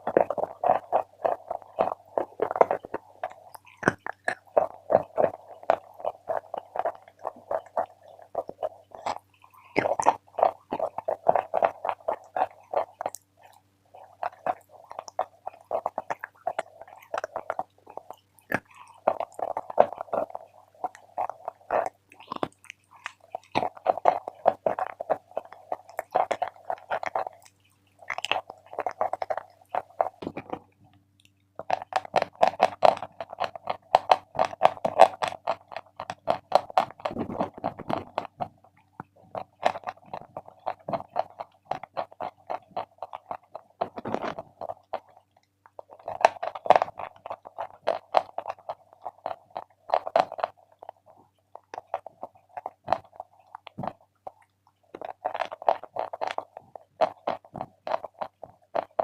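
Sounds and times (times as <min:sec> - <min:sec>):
chalk crunching while chewing: 0:00.0 - 0:59.0.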